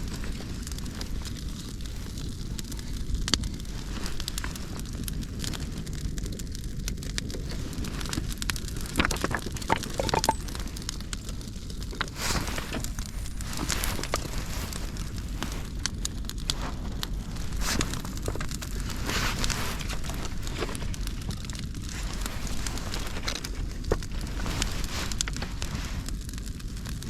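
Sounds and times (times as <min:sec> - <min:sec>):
campfire crackling and popping: 0:00.0 - 0:27.0
sharp fire snaps: 0:00.0 - 0:27.0
steady low rumble: 0:00.0 - 0:27.0.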